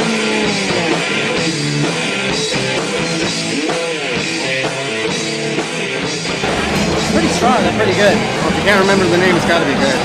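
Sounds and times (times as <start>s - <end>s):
rock music with drums and guitar: 0.0s - 10.0s.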